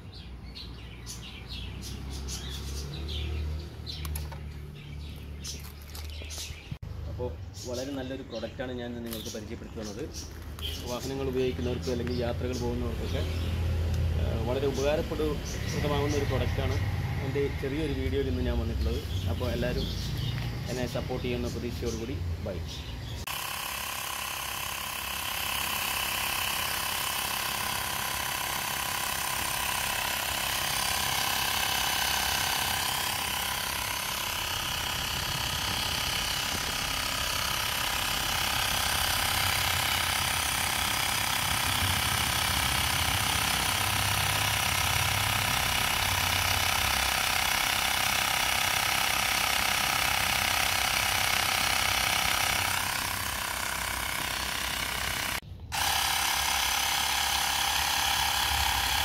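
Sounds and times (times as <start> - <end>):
portable air compressor running: 0.0 - 59.0.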